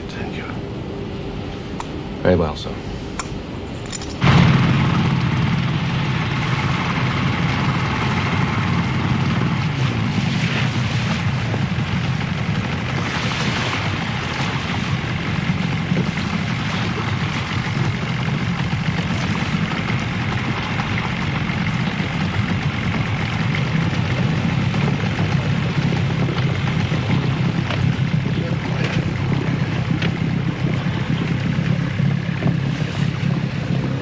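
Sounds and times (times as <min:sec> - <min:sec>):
motor humming: 0:00.0 - 0:34.0.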